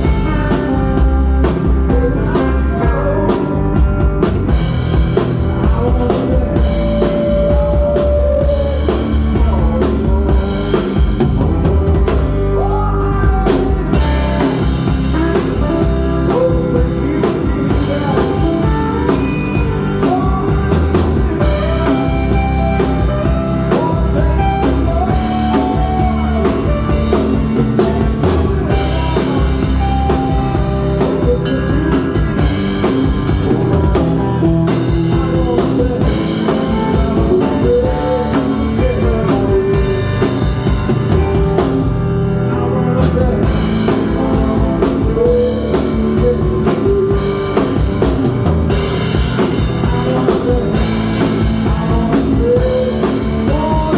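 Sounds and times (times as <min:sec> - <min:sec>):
bass guitar: 0:00.0 - 0:53.9
drum kit: 0:00.0 - 0:53.9
electric guitars: 0:00.0 - 0:53.9
wavering melodic lead line: 0:00.0 - 0:53.9.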